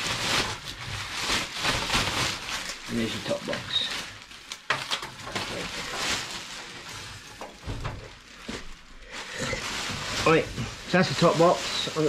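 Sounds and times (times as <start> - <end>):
plastic and cardboard rustling: 0.0 - 12.0.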